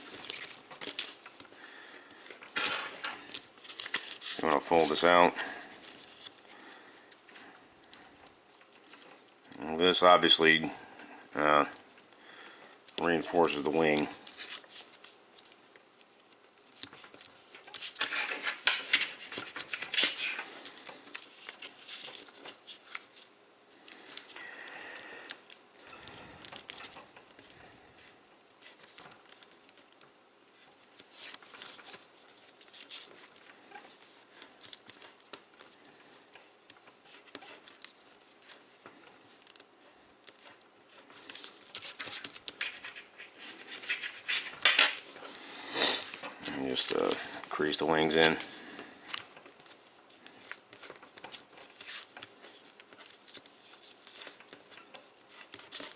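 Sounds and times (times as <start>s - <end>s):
paper crinkling and rustling: 0.0s - 10.6s, 11.4s - 55.9s.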